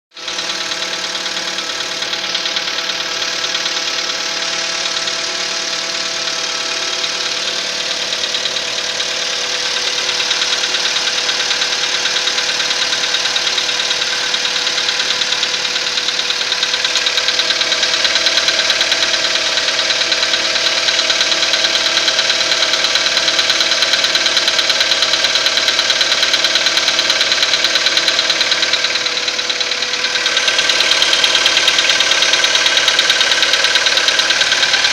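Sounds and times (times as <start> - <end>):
car engine running: 0.1 - 34.9
fast even engine knock: 0.1 - 34.9.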